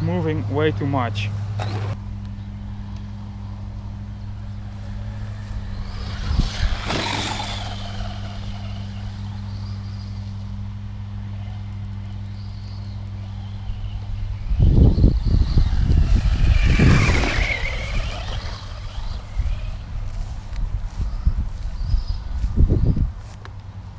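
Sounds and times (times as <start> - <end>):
steady low hum: 0.0 - 23.9
rc car motor whine passing: 1.6 - 22.1.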